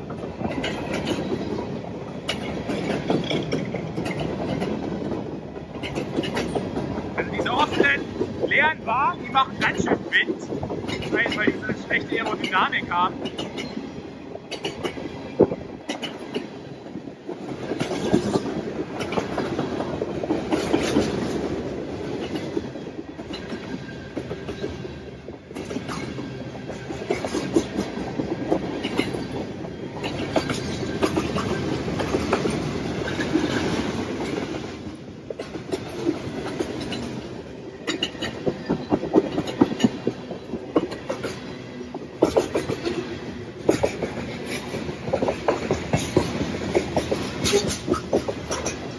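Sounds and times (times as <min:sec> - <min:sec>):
freight train wheels clattering: 0:00.0 - 0:48.9.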